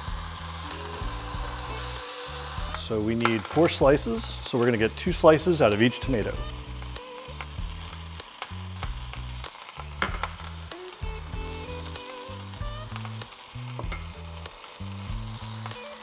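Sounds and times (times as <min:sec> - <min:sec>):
mushrooms sizzling in frying pan: 0:00.0 - 0:16.0.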